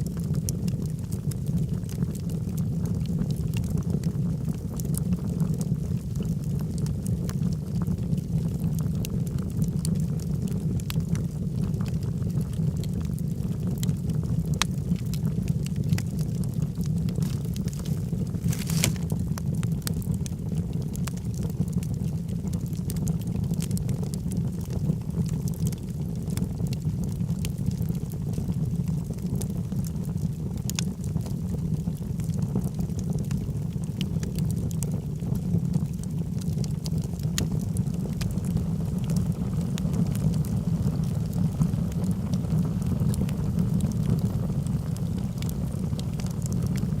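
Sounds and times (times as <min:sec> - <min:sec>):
logs burning with crackles and pops: 0:00.0 - 0:47.0.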